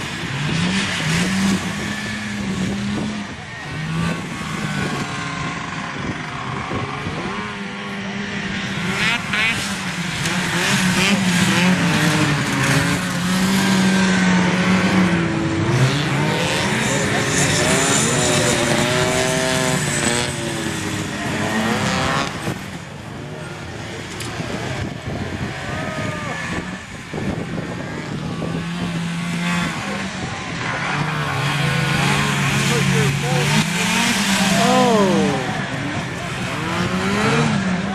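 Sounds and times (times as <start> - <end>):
snowmobile engines racing: 0.0 - 37.9.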